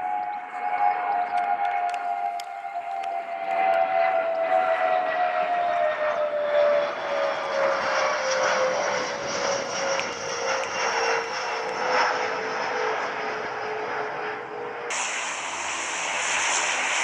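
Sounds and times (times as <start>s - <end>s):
jet plane climbing overhead: 0.0s - 17.0s.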